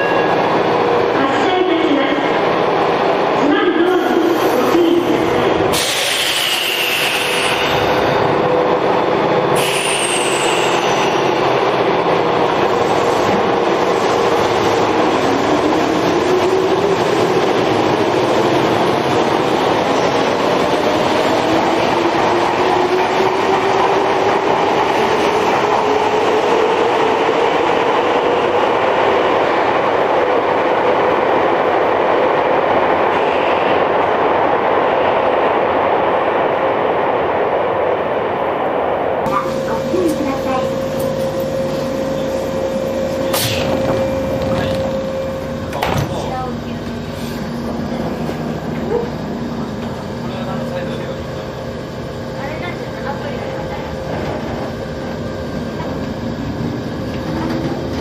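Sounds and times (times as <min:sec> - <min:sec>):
train wheels rumbling on rails: 0:00.0 - 0:37.4, 0:38.9 - 0:58.0.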